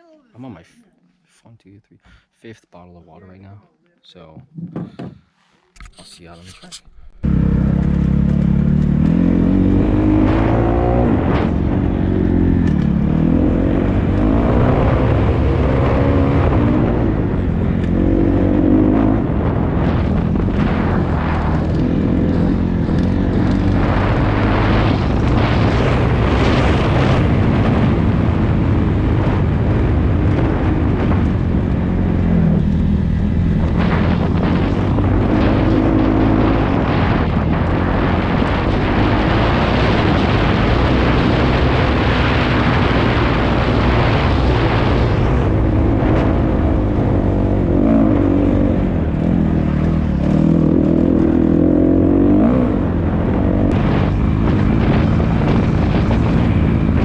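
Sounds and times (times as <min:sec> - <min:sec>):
dirt bike engine revving: 0:07.2 - 0:57.0.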